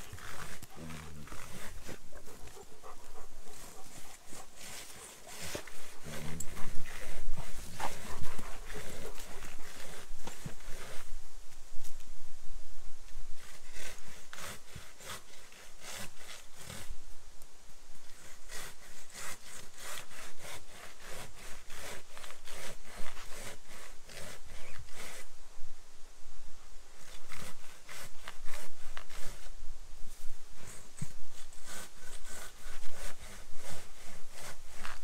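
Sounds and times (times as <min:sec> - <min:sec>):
hand saw cutting wood: 0:00.0 - 0:11.1, 0:13.4 - 0:16.9, 0:18.1 - 0:25.3, 0:26.9 - 0:29.5, 0:30.6 - 0:35.0.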